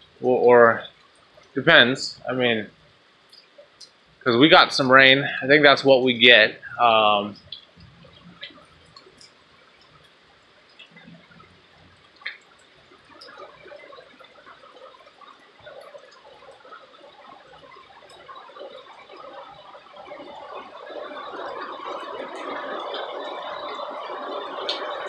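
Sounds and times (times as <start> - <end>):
light rain falling and dripping: 0.0 - 25.0.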